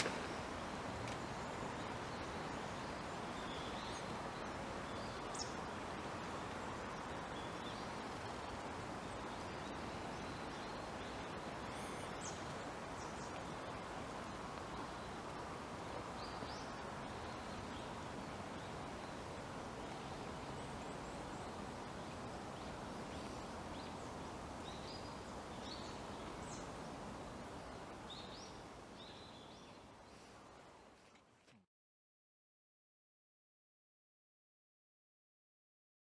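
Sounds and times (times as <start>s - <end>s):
forest background noise: 0.0s - 31.6s.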